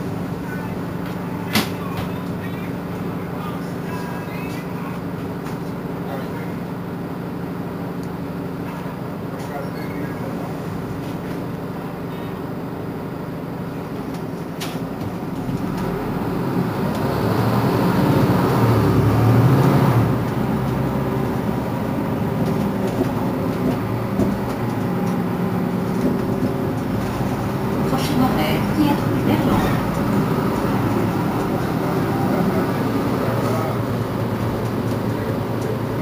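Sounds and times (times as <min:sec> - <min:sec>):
bus engine pulling away: 0:00.0 - 0:36.0.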